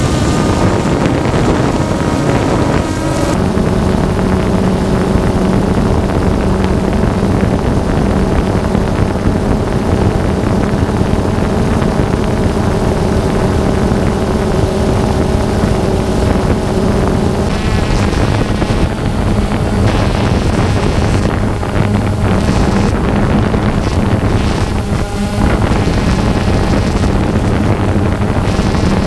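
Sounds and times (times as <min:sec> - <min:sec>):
drone motors buzzing: 0:00.0 - 0:29.0
wind noise: 0:00.0 - 0:29.0.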